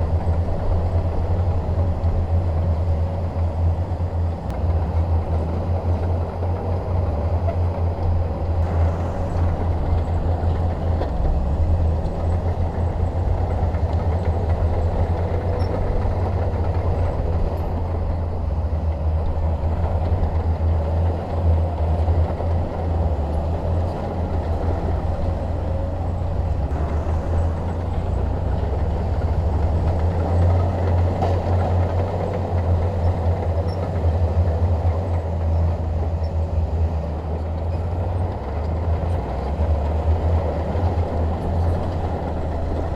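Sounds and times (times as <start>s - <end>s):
bulldozer diesel engine droning: 0.0s - 42.9s.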